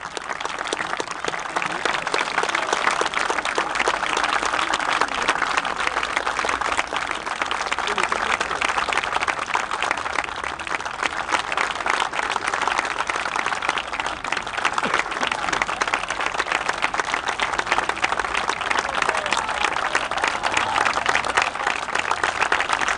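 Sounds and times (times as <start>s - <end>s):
crowd applauding: 0.0s - 22.9s.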